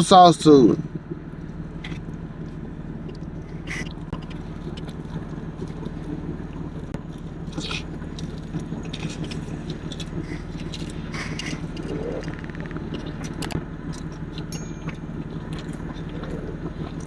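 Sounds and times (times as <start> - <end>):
steady low hum: 0.0 - 17.0
crunching clicks: 1.4 - 17.0
man chewing food: 1.8 - 17.0.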